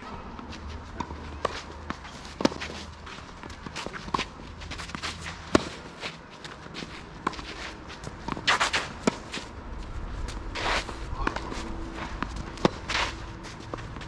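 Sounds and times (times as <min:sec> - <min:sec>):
footsteps on tennis court: 0:00.0 - 0:14.0
shoes scuffing and sliding: 0:00.4 - 0:14.0.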